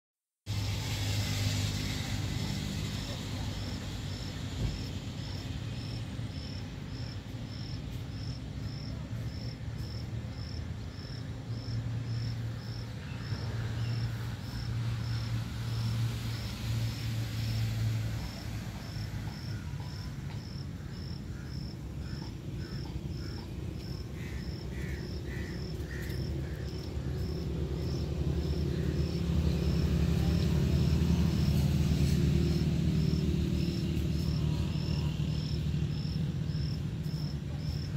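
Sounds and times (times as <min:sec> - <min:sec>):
insect chirping: 0:03.0 - 0:37.9.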